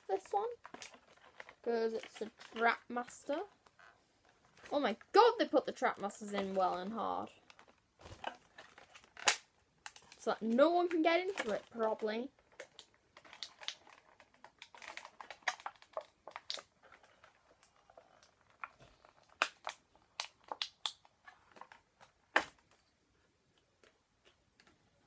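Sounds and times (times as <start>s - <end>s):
plastic packaging crinkling and snapping: 0.0s - 24.9s.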